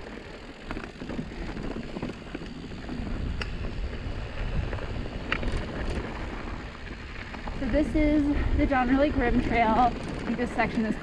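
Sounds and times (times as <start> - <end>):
bike rattling: 0.0 - 11.0
bike tyres on dirt: 0.0 - 11.0
wind buffeting the microphone: 0.9 - 11.0.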